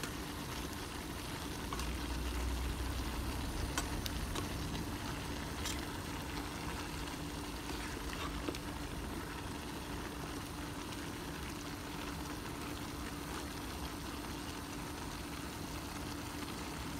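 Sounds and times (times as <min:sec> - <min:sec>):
food sizzling in a frying pan: 0:00.0 - 0:16.9.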